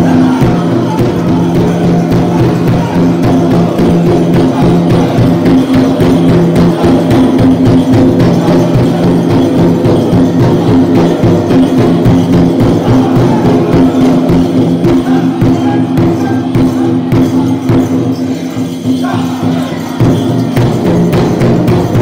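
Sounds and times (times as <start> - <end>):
large drum fast steady beat: 0.0 - 22.0
men singing: 0.0 - 22.0.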